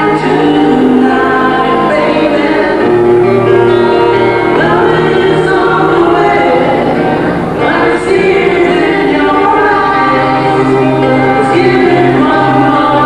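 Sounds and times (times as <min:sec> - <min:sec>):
acoustic guitars: 0:00.0 - 0:13.0
male voices singing in harmony: 0:00.0 - 0:13.0.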